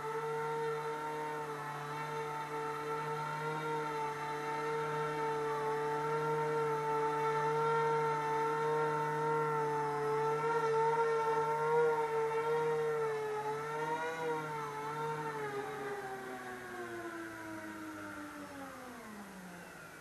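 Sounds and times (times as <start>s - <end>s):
electric motors buzzing whine: 0.0s - 20.0s.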